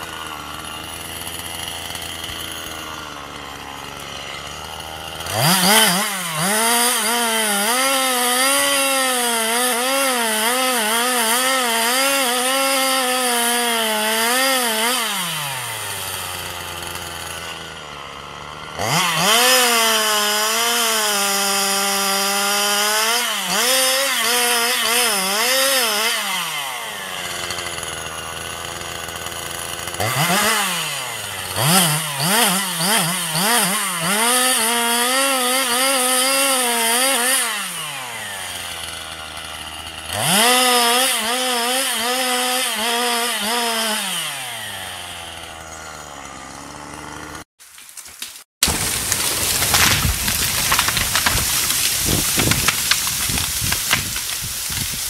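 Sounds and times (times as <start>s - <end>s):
chainsaw revving and cutting: 0.0s - 47.6s, 48.3s - 55.0s.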